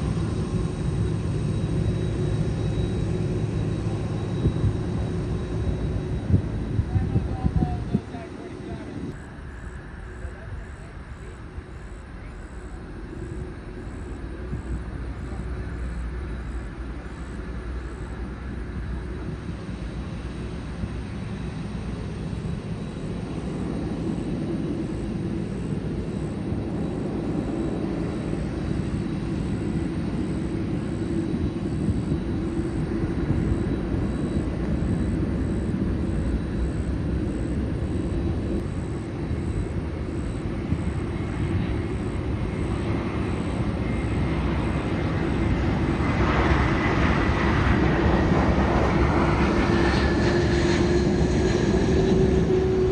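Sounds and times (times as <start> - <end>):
jet airliner engine rumble: 0.0 - 52.9.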